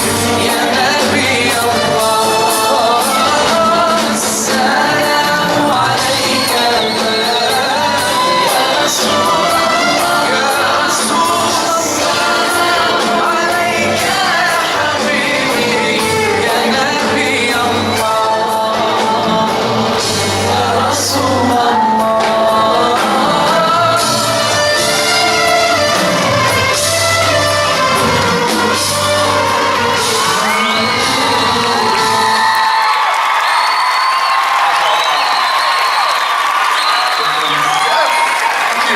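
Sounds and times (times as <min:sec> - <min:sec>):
musical accompaniment: 0:00.0 - 0:38.9
person singing live: 0:00.0 - 0:38.9.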